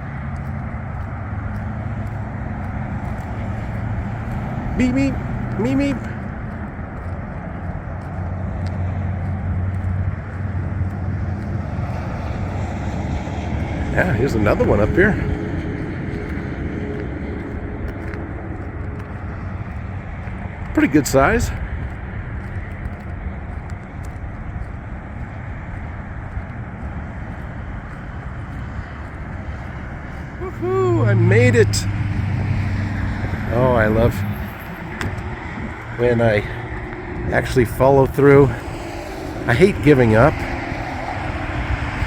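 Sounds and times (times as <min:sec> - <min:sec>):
road traffic rumble: 0:00.0 - 0:42.0.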